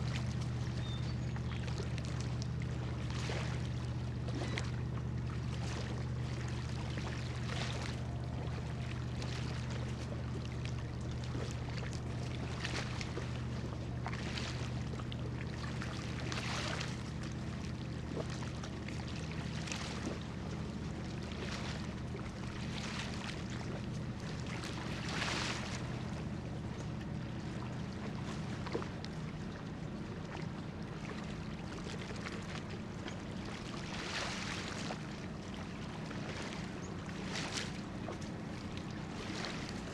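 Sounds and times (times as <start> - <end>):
ship diesel engine droning: 0.0 - 33.8
water lapping and splashing: 0.0 - 39.9.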